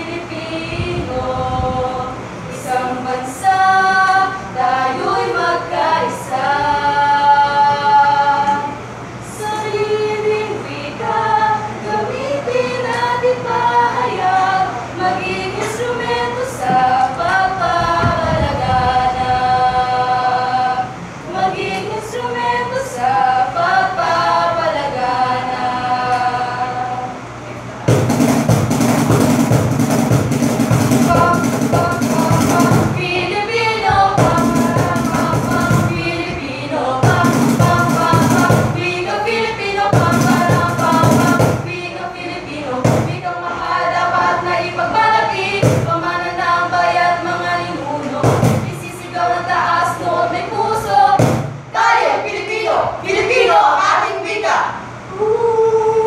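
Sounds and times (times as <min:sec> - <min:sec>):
group singing a cappella: 0:00.0 - 0:56.0.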